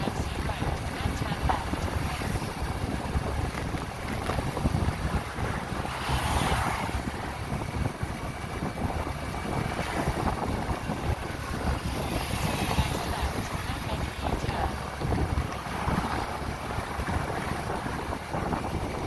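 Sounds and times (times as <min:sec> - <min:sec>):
road and engine rumble: 0:00.0 - 0:19.0
wind buffeting microphone: 0:00.0 - 0:19.0.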